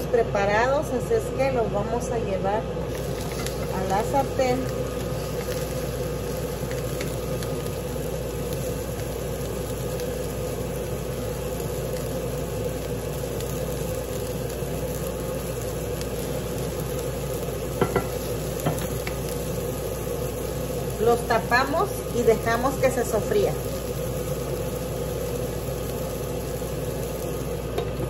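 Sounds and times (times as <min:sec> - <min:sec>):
vegetables sizzling in frying pan: 0:00.0 - 0:28.0.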